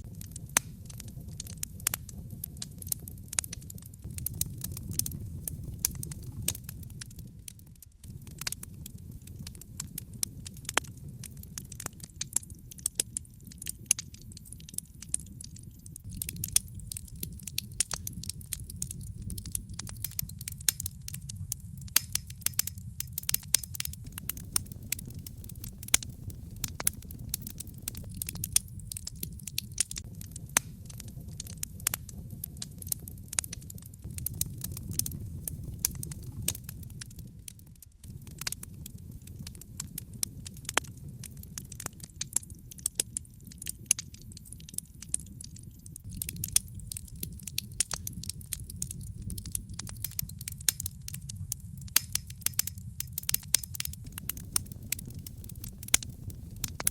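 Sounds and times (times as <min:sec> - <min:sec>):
low rush of flames: 0:00.0 - 0:56.9
wood fire crackling and popping: 0:00.0 - 0:56.9.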